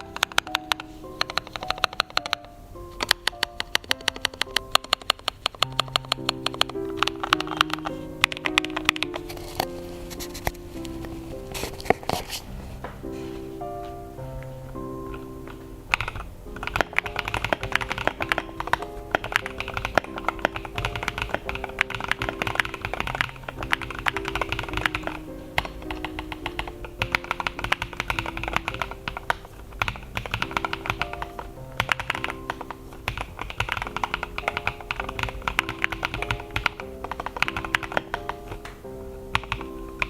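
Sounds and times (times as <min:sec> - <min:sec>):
rapid typing on mechanical keyboard: 0:00.0 - 0:09.7, 0:15.1 - 0:40.0
background music: 0:00.0 - 0:40.0.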